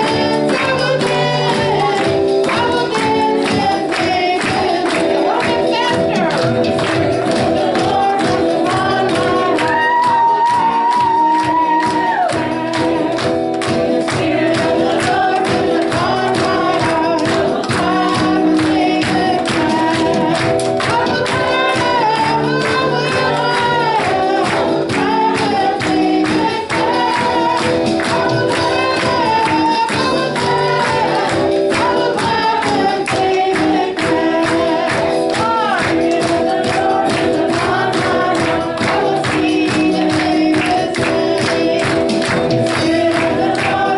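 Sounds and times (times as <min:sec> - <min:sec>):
group of voices singing: 0:00.0 - 0:43.9
held instrumental chords: 0:00.0 - 0:43.9
steady percussive beat: 0:00.0 - 0:43.9.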